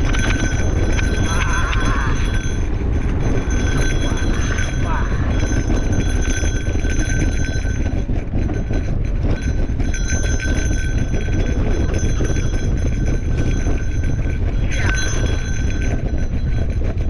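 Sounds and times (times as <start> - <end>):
bike rattling over bumps: 0.0 - 17.0
bike tyres rumbling on dirt: 0.0 - 17.0
freewheel hub buzzing: 0.0 - 17.0
wind on microphone: 0.0 - 17.0.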